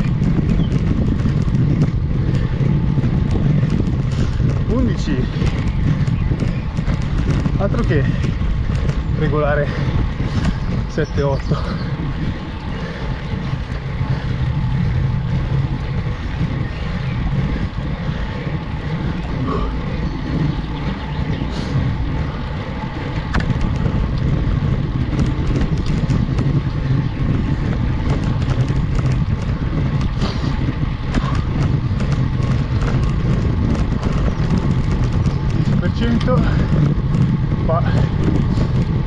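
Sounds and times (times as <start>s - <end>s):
road noise: 0.0s - 39.0s
wind noise: 0.0s - 39.0s.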